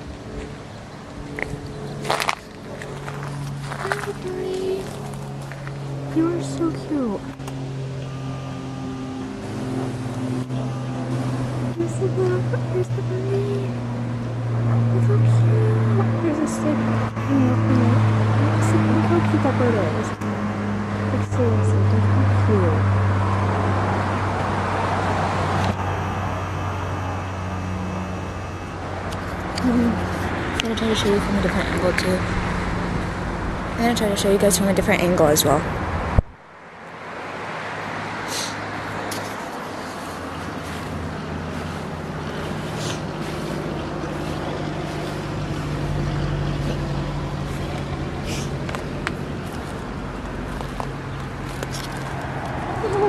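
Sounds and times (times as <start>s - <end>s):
steady low hum: 0.0s - 36.6s, 37.8s - 53.0s
road traffic rushing past: 0.0s - 53.0s.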